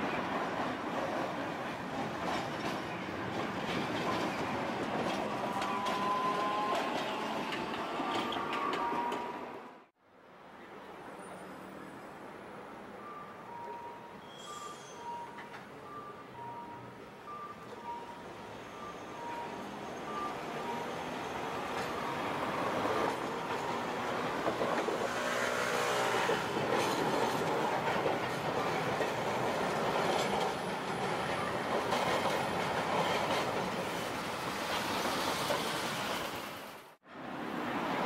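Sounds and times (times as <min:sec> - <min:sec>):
streetcar running over tracks: 0:00.0 - 0:38.0.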